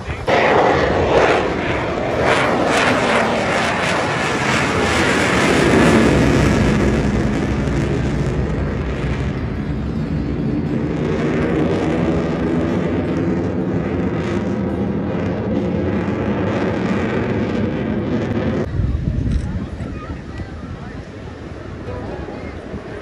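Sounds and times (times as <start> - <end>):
jet engine flyby: 0.0 - 23.0.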